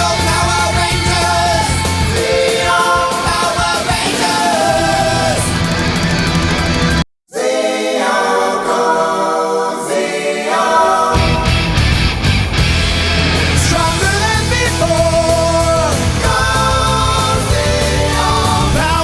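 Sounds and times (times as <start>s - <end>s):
rock song with vocals: 0.0s - 9.2s, 10.4s - 19.0s.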